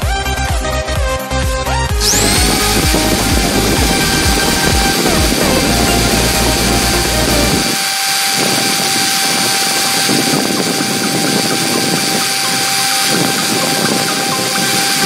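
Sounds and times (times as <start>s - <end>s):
small motor whining: 2.0s - 15.0s.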